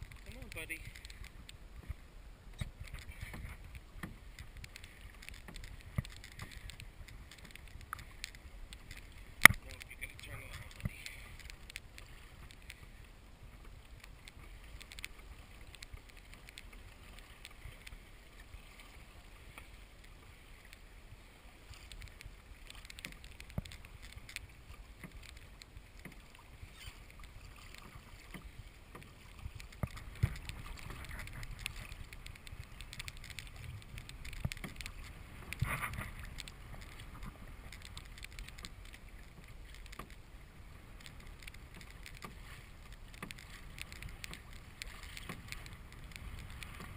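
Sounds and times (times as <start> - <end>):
small knocks and clicks: 0.0 - 12.9, 13.5 - 18.0, 21.7 - 40.3, 40.9 - 46.9
water splashing against kayak hull: 0.0 - 46.9.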